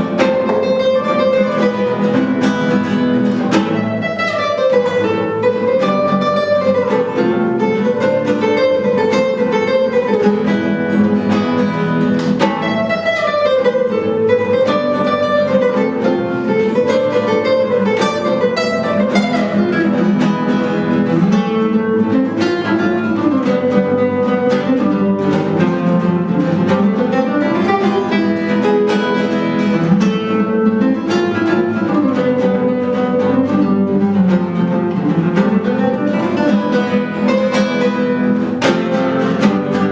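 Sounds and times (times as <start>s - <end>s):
picked guitar accompaniment: 0.0s - 39.9s
plucked guitar melody: 0.0s - 39.9s.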